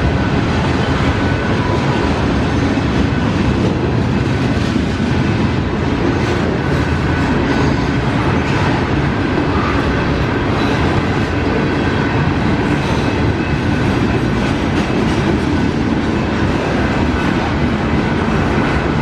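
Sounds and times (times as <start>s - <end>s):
freight train cars rolling past: 0.0s - 19.0s.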